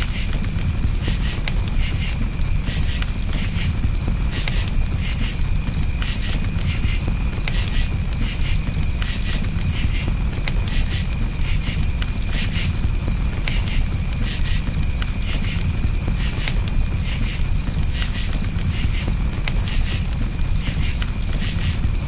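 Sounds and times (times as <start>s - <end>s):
campfire crackling and popping: 0.0s - 22.0s
crickets chirping: 0.0s - 22.0s.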